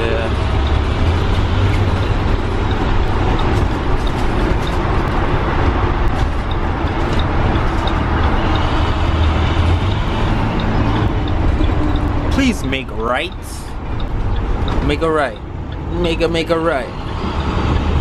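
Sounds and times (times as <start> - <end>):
diesel engine drone: 0.0 - 18.0
road and tyre noise: 0.0 - 18.0.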